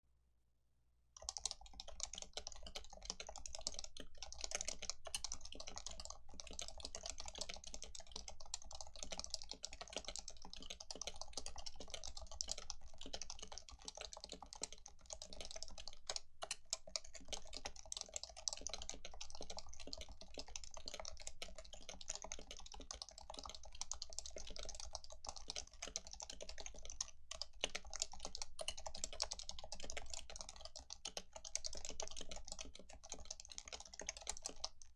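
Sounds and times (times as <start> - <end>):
fast typing on keyboard: 1.2 - 34.9.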